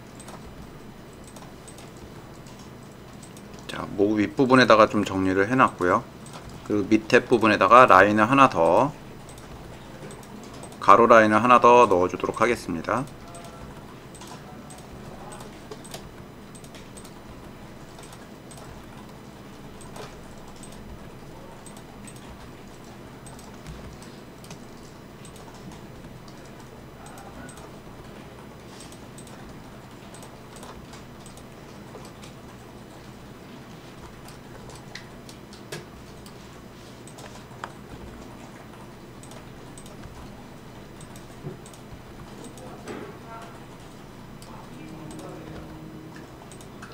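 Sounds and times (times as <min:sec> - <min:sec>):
low background hum: 0:00.0 - 0:46.9.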